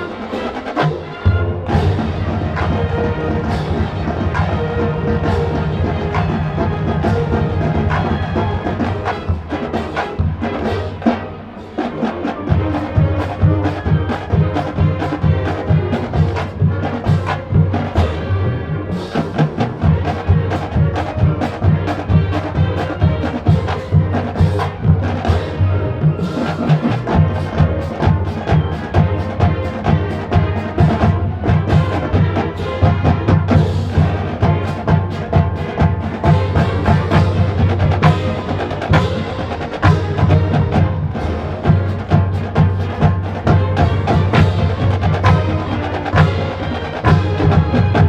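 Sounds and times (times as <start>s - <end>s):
marching band playing: 0.0s - 48.0s
steady drum beat: 0.0s - 48.0s.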